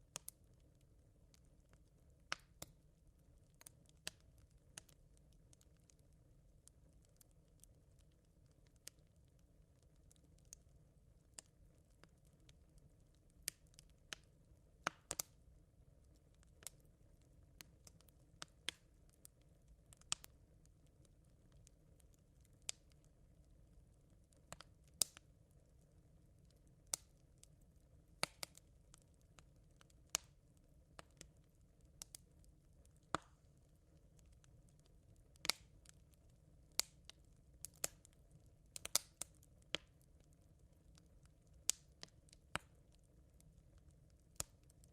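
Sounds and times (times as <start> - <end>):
embers crackling and popping: 0.0 - 44.9.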